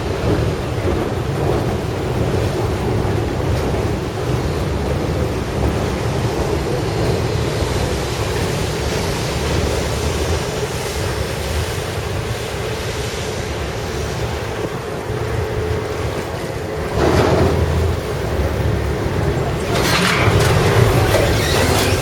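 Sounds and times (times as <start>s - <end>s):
boat engine rumble: 0.0s - 22.0s
water wash: 0.0s - 22.0s
wind buffeting microphone: 0.0s - 22.0s.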